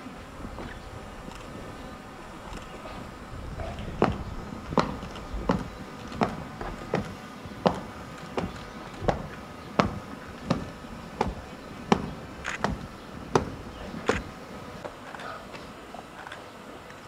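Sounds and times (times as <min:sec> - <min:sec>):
boots marching on dirt: 0:00.4 - 0:15.0.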